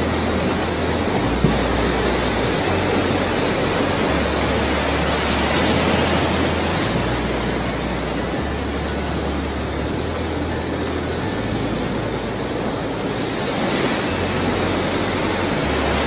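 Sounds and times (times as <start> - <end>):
surf breaking over pier: 0.0 - 16.0.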